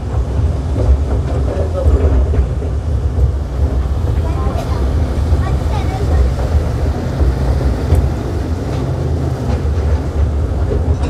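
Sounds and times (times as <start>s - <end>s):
toy train rumbling on track: 1.2s - 11.0s.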